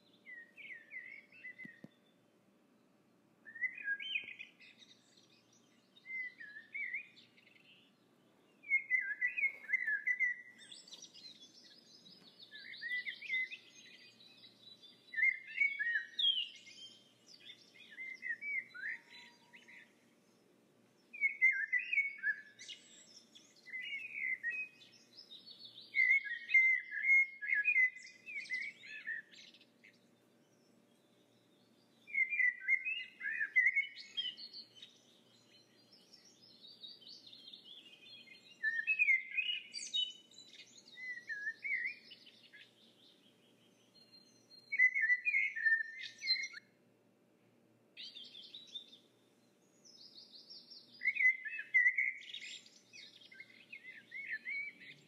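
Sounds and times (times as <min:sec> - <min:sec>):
songbird chirping and warbling: 0:00.0 - 0:46.8, 0:48.0 - 0:55.0.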